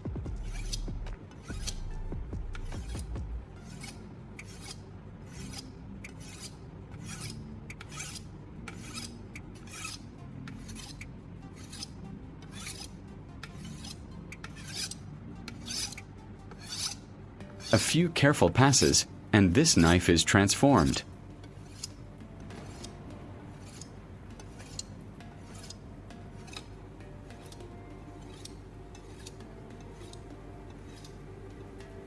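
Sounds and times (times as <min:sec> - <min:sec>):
knife scraping on ceramic: 0:00.4 - 0:01.8, 0:02.6 - 0:20.1, 0:20.8 - 0:32.0.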